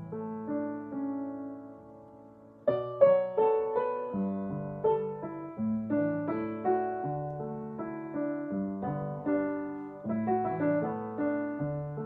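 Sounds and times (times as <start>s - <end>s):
upright piano playing slow melody: 0.0s - 12.0s.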